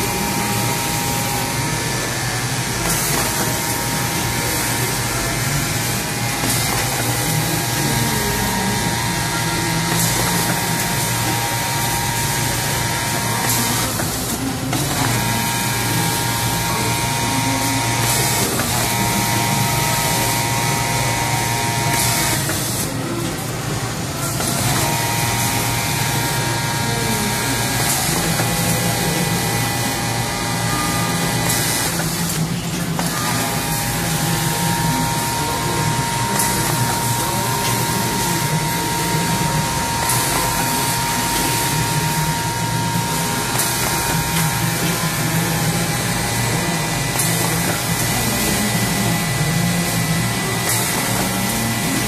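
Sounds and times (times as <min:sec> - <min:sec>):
serging machine humming and whining: 0:00.0 - 0:52.0.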